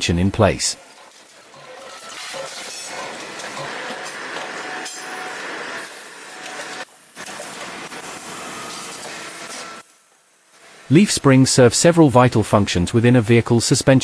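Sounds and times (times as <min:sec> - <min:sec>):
factory machinery noise: 0:02.0 - 0:14.0.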